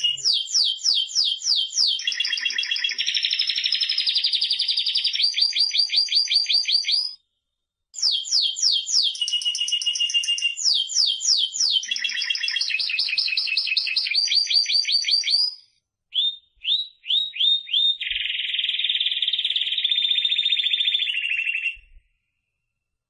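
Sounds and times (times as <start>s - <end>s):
canary singing: 0.0s - 7.2s, 8.0s - 22.0s.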